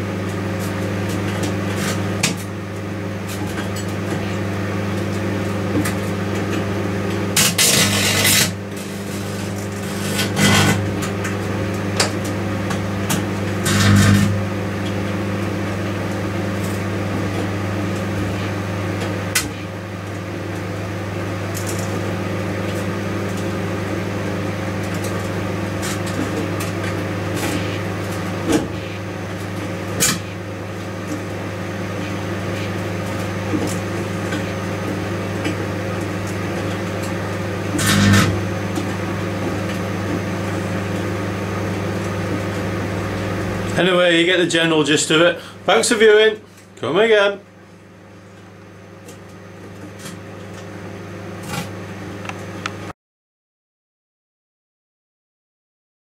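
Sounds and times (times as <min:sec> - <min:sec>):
microwave oven humming: 0:00.0 - 0:53.0.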